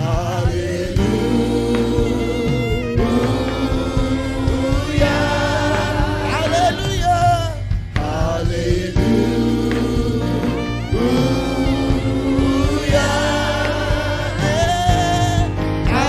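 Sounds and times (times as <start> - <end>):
band accompaniment: 0.0 - 16.0
singer and choir singing: 0.0 - 16.0.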